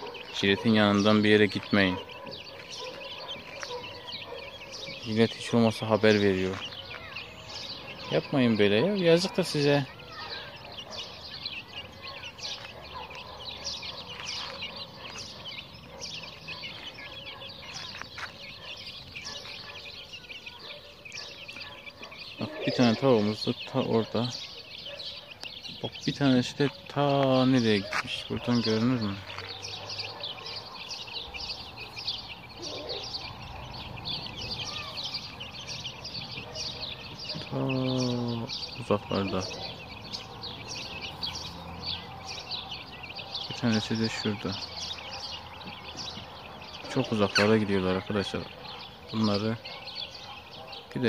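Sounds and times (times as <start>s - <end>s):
chicks peeping: 0.0s - 51.0s
small birds chirping: 0.0s - 51.0s.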